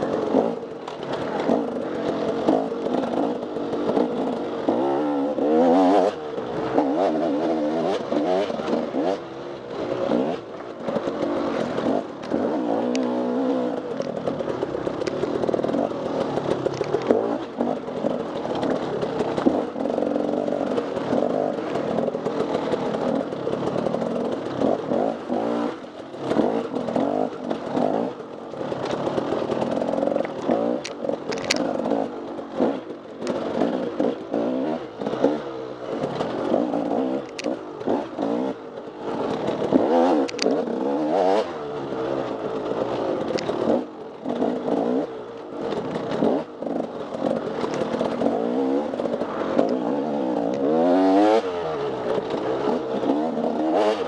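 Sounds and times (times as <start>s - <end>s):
knocks and clatter: 0.0s - 54.0s
motorcycle engine revving: 0.0s - 54.0s.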